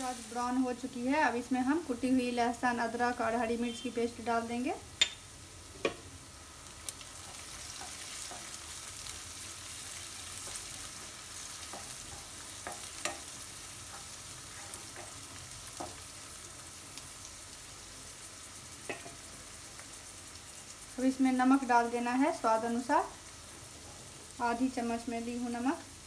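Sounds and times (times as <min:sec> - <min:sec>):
onion sizzling in oil: 0:00.0 - 0:26.0.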